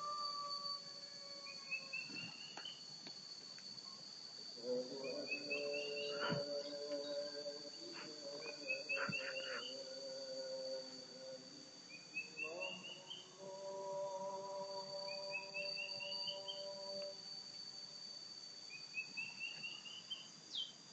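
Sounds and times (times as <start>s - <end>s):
high-pitched insect drone: 0.0s - 20.7s.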